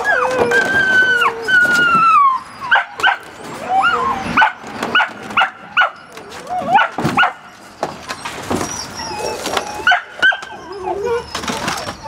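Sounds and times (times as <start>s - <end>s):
puppies whining: 0.0s - 12.0s
puppies yelping: 0.0s - 12.0s.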